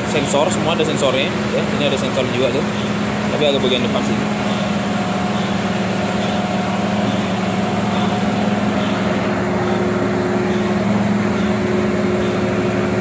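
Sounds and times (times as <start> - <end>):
excavator diesel engine running: 0.0 - 13.0
higher engine tone: 0.0 - 13.0.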